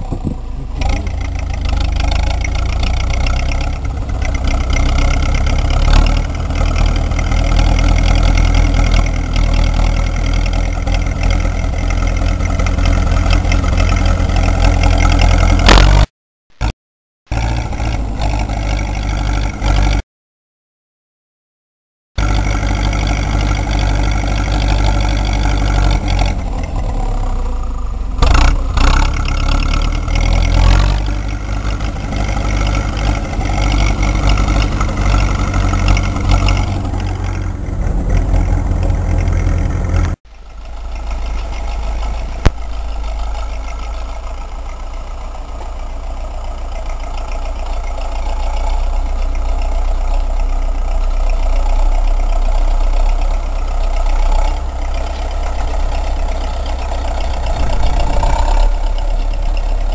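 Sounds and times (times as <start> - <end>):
tractor diesel engine running: 0.0 - 16.7, 17.3 - 20.0, 22.2 - 59.9.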